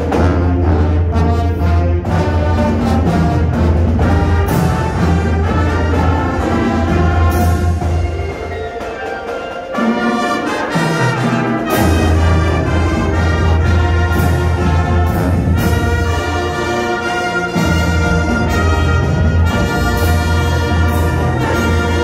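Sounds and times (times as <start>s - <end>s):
brass chords: 0.0s - 22.0s
percussion hits: 0.0s - 22.0s.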